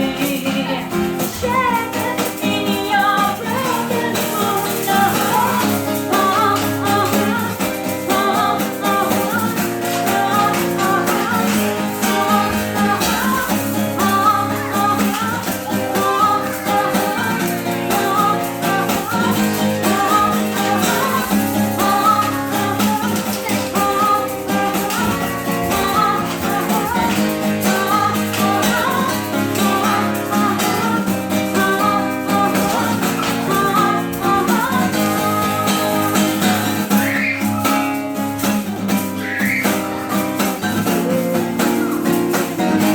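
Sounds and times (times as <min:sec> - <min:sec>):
acoustic guitar picking: 0:00.0 - 0:42.9.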